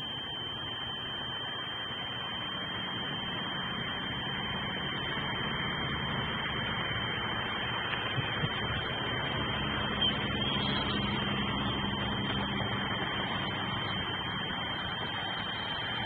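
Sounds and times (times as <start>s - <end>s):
high-pitched electronic whine: 0.0s - 16.0s
road traffic: 0.0s - 16.0s.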